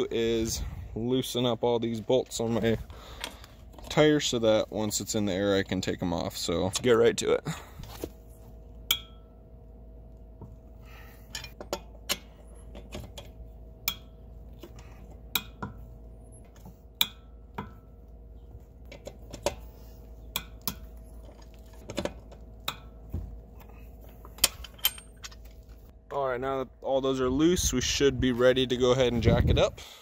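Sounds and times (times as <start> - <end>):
faint hum: 0.0 - 30.0.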